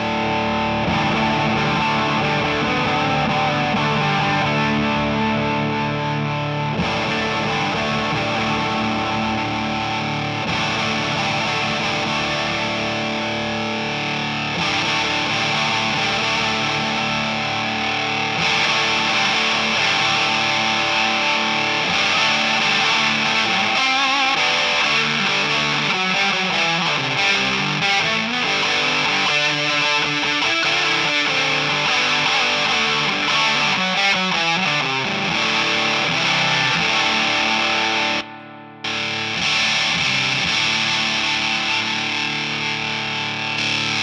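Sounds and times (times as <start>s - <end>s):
distorted electric guitar: 0.0s - 44.0s.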